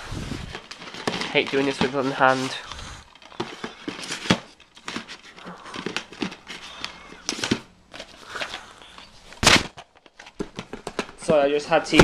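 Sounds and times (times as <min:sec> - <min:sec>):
rustling and scraping handling noise: 0:00.0 - 0:12.0
plastic cases clicking and rattling: 0:00.5 - 0:08.6, 0:09.4 - 0:12.0.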